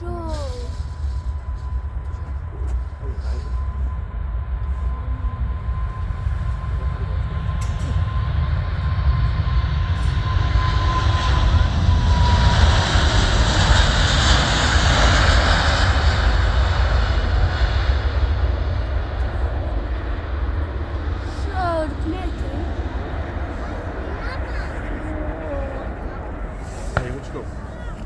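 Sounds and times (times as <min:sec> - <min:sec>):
jet engine whine: 0:00.0 - 0:28.0
jetliner roar passing: 0:00.0 - 0:28.0.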